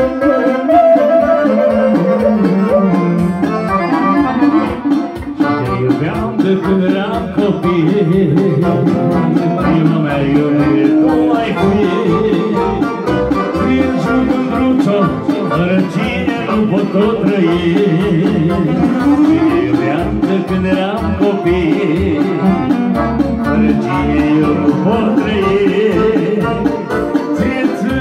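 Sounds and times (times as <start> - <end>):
live band instrumental: 0.0 - 28.0.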